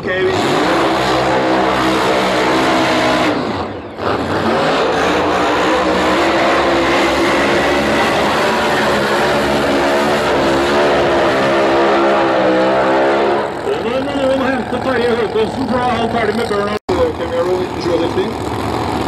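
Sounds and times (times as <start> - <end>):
racing car engine at high revs: 0.0 - 19.0.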